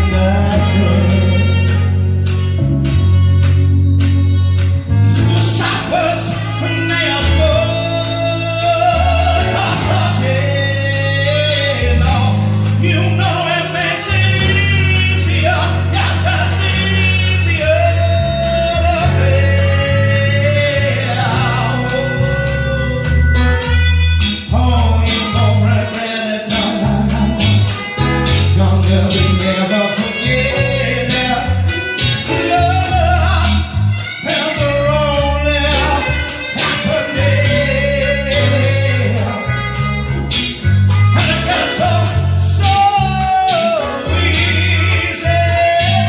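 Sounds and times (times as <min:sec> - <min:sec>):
man singing into microphone: 0:00.0 - 0:02.2, 0:05.1 - 0:46.0
bass line: 0:00.0 - 0:46.0
guitar: 0:00.0 - 0:46.0.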